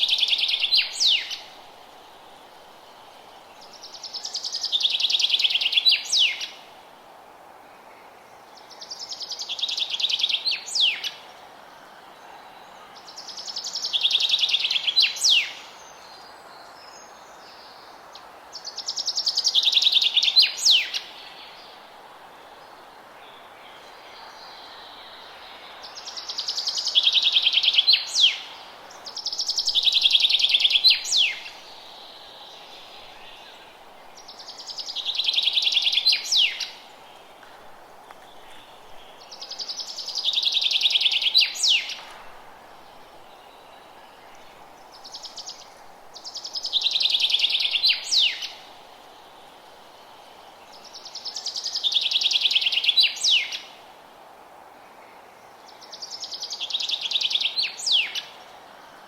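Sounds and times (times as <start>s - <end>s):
faint hiss: 0.0s - 59.0s.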